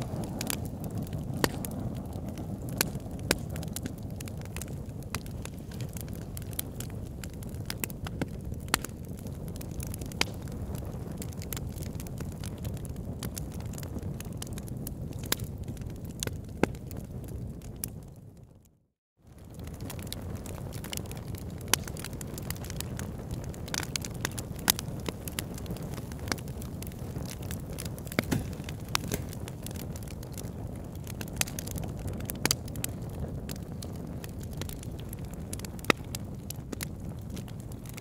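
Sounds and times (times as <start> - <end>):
wood fire crackling: 0.0 - 18.7, 19.3 - 38.0.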